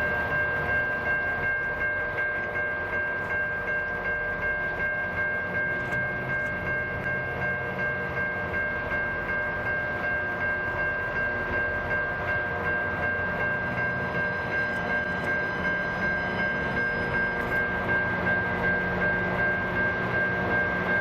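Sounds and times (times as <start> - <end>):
continuous rumble: 0.0 - 21.0
rail grinder high whine: 0.0 - 21.0.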